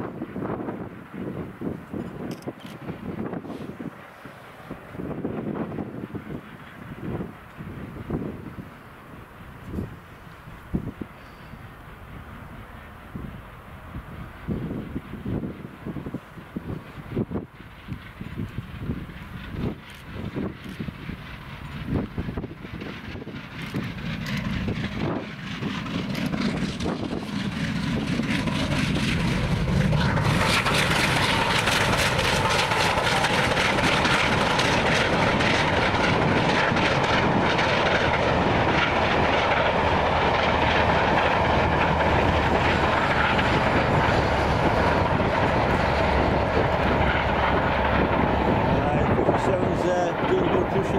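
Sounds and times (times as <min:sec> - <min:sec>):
train coaches rolling by: 0:00.0 - 0:50.9
steam locomotive exhaust beats: 0:02.9 - 0:50.9.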